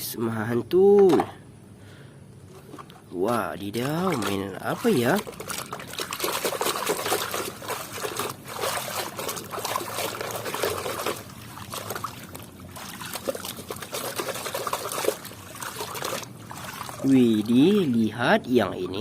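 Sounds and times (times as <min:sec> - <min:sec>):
water pouring and splashing: 0:02.5 - 0:19.0.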